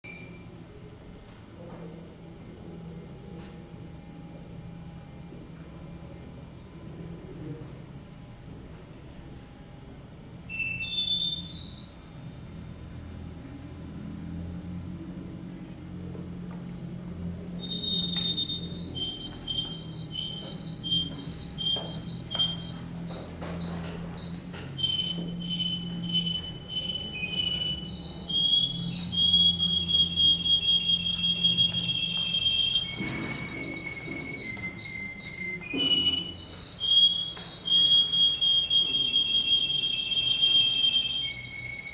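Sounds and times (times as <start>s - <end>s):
canary singing: 0.0s - 6.3s, 7.3s - 15.8s, 17.2s - 41.9s.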